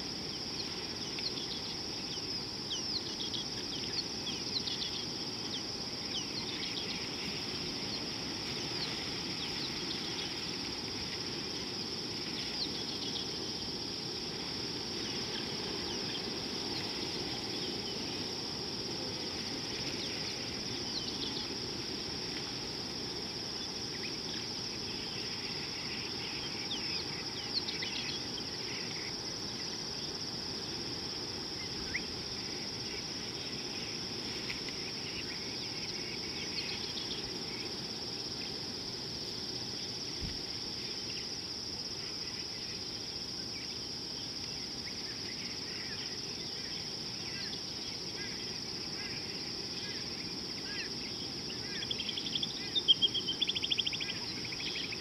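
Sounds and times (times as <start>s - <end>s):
low background noise: 0.0s - 55.0s.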